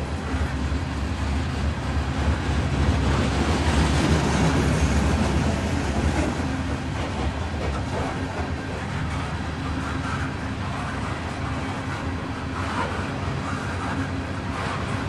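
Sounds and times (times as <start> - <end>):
steel wheels rumbling on track: 0.0 - 15.0.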